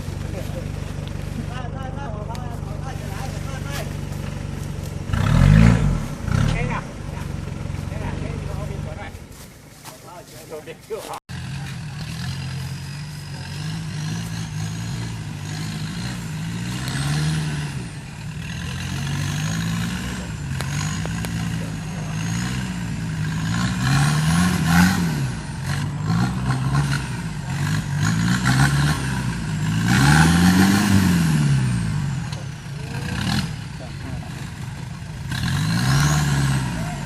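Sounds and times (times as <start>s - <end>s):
truck engine revving: 0.0s - 9.4s, 11.2s - 37.0s.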